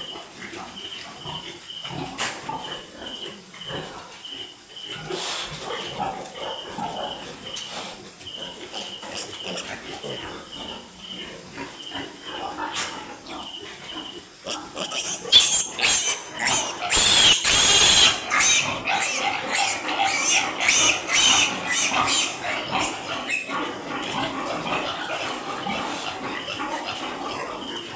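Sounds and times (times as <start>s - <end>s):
piglets squealing and grunting: 0.0s - 27.9s.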